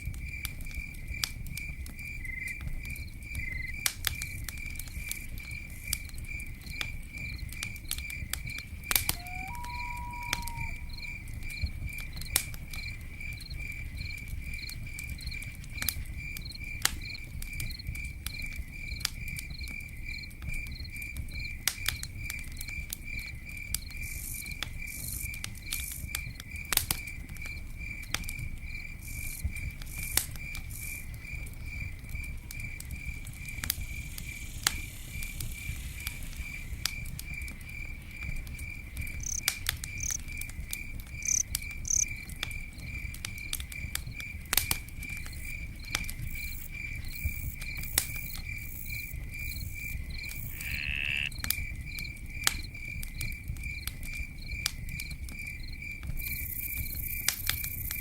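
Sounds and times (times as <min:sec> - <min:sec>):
campfire crackling: 0:00.0 - 0:58.0
cricket chirping: 0:00.0 - 0:58.0.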